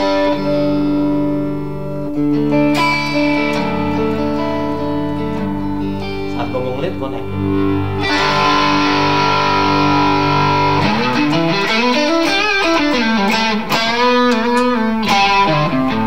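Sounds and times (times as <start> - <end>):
overdriven electric guitar: 0.0 - 16.0.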